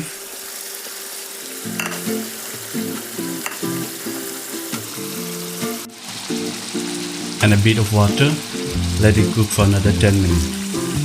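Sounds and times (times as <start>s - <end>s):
curry sizzling in a frying pan: 0.0s - 11.0s
background music: 1.8s - 11.0s.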